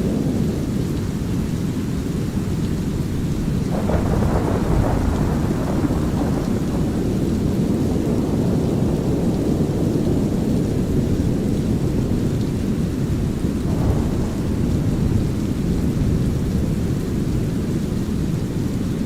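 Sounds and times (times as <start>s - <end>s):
light rain: 0.0s - 19.0s
low thunder rumble: 0.0s - 19.0s.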